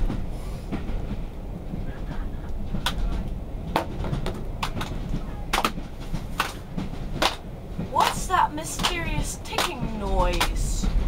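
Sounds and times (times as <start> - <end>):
railway carriage rumble: 0.0 - 11.0.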